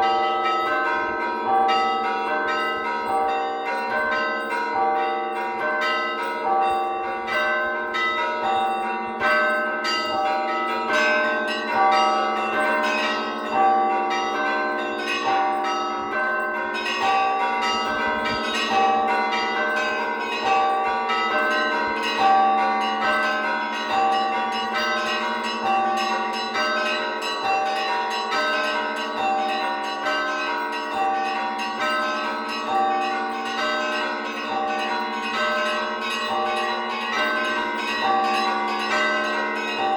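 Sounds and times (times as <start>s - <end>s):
deep bell tone: 0.0s - 39.9s
medium bells: 0.0s - 39.9s
small bells in fast pattern: 0.0s - 39.9s.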